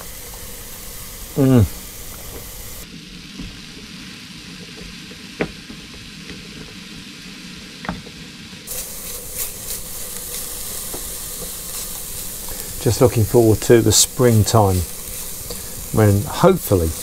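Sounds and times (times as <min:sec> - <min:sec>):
mushrooms sizzling in pan: 0:00.0 - 0:17.0.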